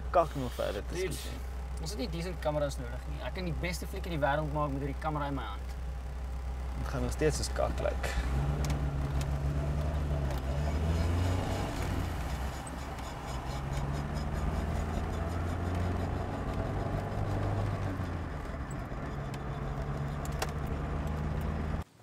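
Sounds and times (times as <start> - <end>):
car engine drone: 0.0 - 22.0.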